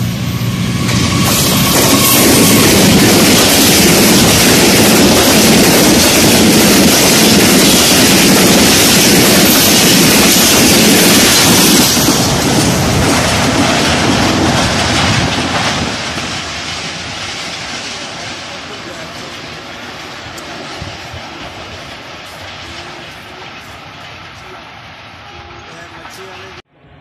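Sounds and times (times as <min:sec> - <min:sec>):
train passing at speed: 0:00.0 - 0:27.0.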